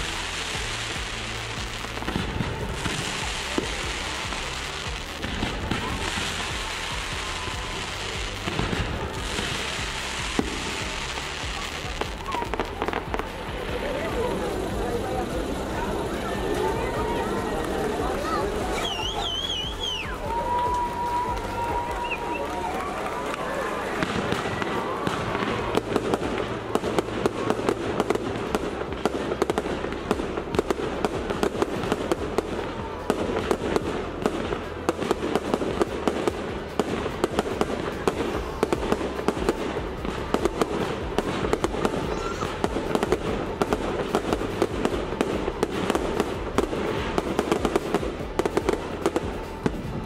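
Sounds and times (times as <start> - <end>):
fireworks bangs and crackling: 0.0 - 50.0.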